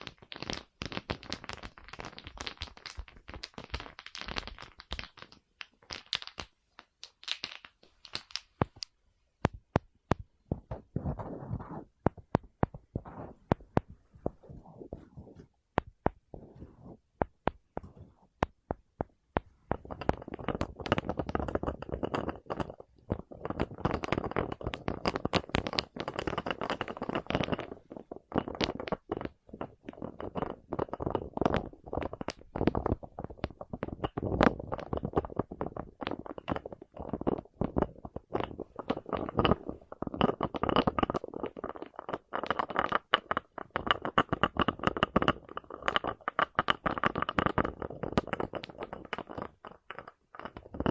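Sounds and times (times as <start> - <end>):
quick tapping and scratching: 0.0 - 50.9.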